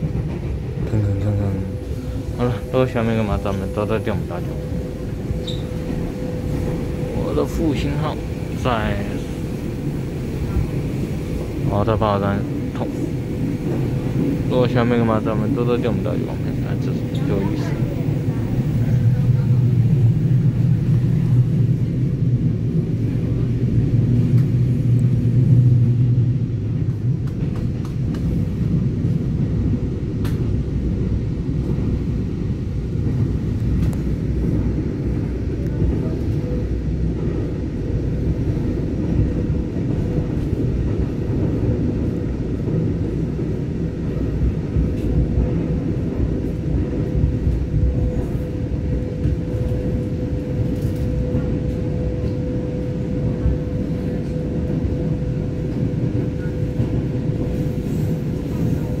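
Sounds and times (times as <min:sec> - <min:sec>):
heavier low drone: 0:00.0 - 0:59.0
train rumbling on the track: 0:00.0 - 0:59.0.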